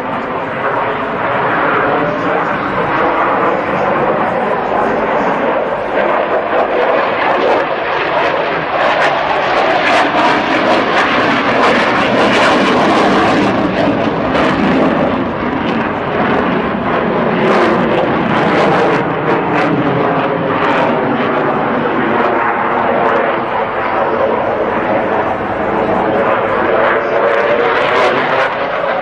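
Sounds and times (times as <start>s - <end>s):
jet engine roaring: 0.0s - 29.0s.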